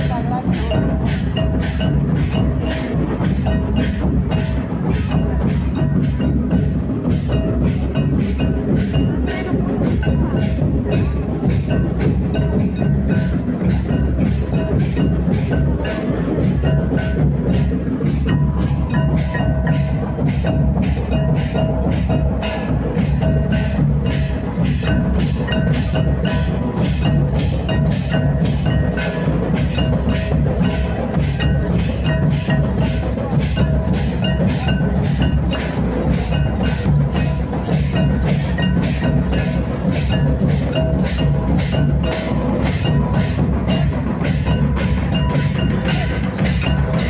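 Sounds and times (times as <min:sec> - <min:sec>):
hand drums: 0:00.0 - 0:47.0
kettle drum beat: 0:00.0 - 0:47.0.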